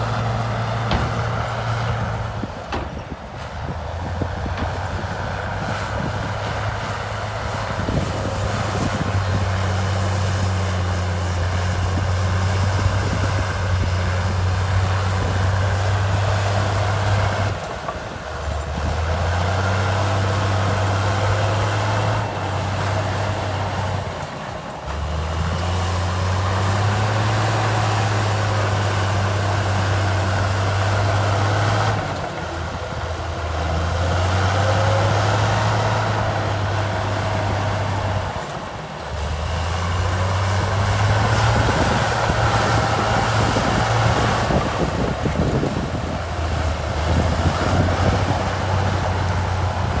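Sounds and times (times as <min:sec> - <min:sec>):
diesel engine under load: 0:00.0 - 0:50.0.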